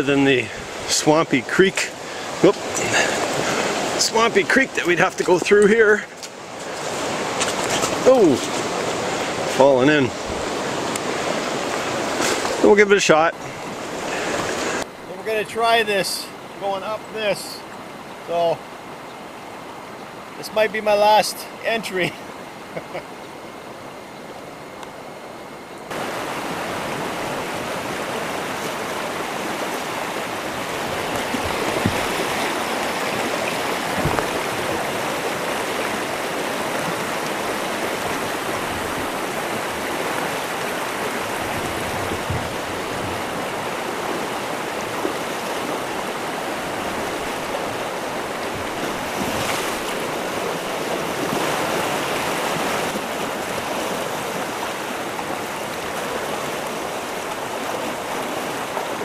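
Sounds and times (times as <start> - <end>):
rushing water of rapids: 0.0 - 24.0, 25.9 - 59.0.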